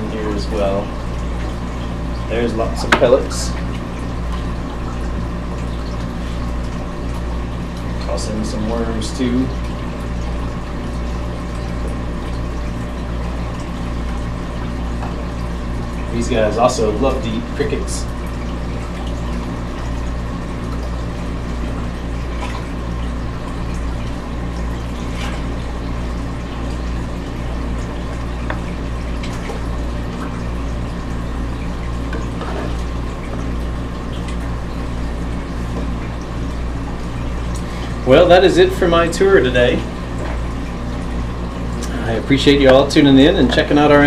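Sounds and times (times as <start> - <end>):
low pump hum: 0.0 - 44.0
water trickling into a tank: 0.0 - 44.0.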